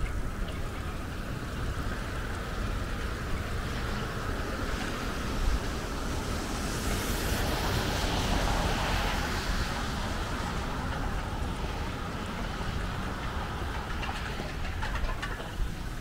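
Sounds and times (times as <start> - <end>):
light traffic hiss: 0.0 - 16.0
low wind rumble: 0.0 - 16.0.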